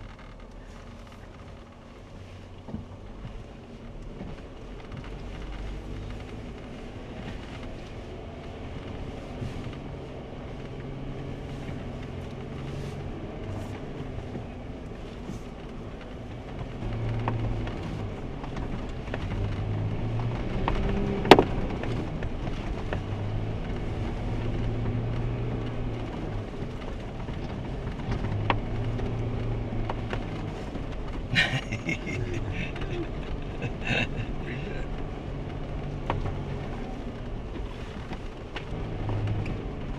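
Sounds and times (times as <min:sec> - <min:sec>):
engine running at low speed: 0:00.0 - 0:39.9.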